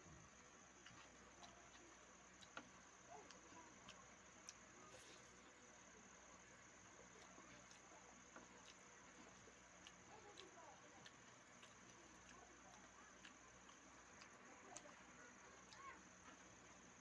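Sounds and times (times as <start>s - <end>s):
chewing and mouth sounds: 0.8s - 5.5s, 6.6s - 17.0s.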